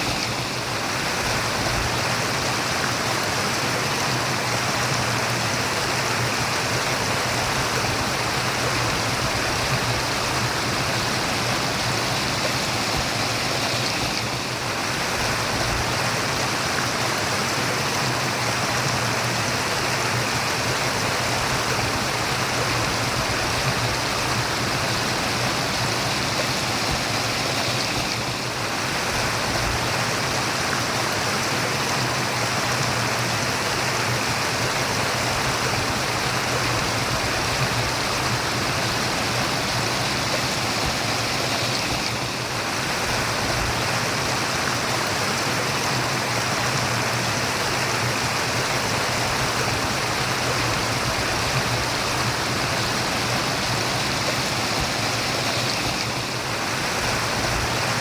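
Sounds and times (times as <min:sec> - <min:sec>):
running water murmuring: 0:00.0 - 0:58.0.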